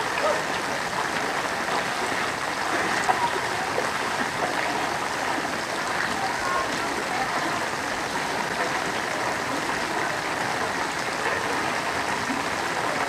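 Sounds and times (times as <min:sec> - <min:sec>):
floodwater rushing and sloshing: 0:00.0 - 0:13.0
people wading through water: 0:00.0 - 0:13.0.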